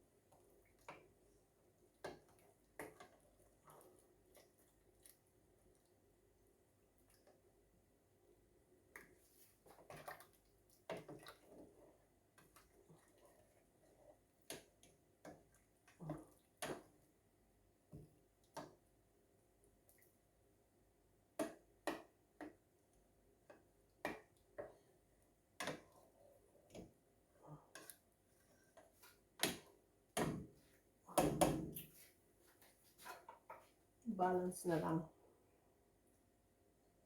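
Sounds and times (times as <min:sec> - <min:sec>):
simmering pot clicking and tapping: 0:00.0 - 0:20.3, 0:21.1 - 0:32.0.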